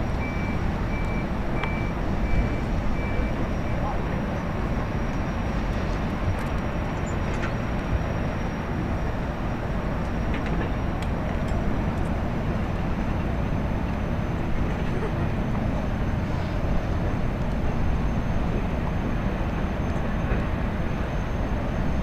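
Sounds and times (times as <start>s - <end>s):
low engine-like rumble: 0.0s - 22.0s.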